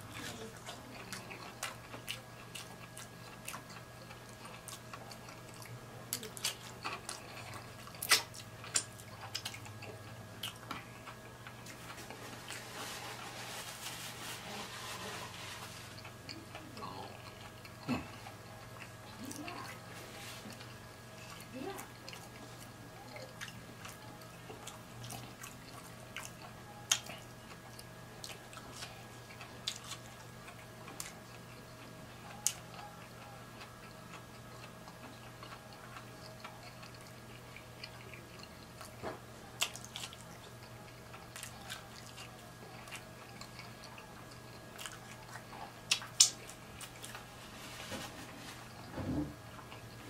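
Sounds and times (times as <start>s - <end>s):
faint steady hum: 0.0s - 50.0s
person chewing food: 0.0s - 50.0s.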